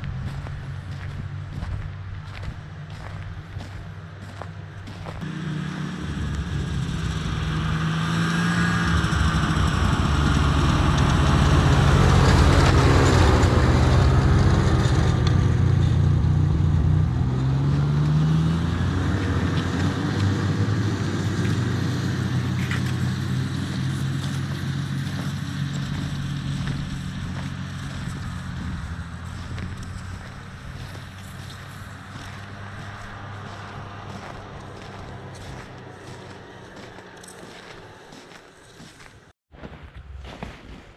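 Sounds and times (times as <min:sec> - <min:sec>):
snowmobile engine passing by: 0:00.0 - 0:39.3.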